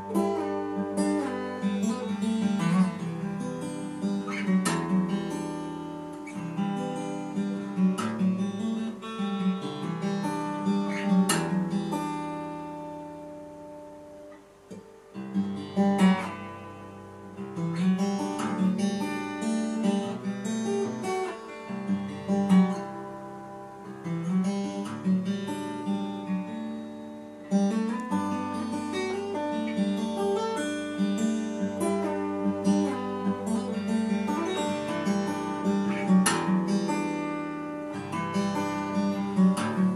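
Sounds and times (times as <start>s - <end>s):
acoustic guitar chords: 0.0s - 39.9s.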